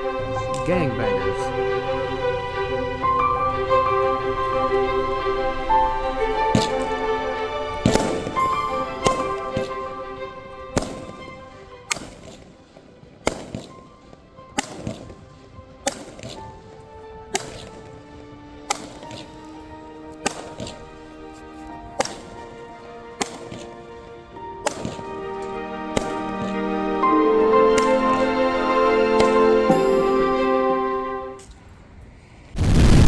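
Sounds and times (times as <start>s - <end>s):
background music with held notes: 0.0s - 31.7s.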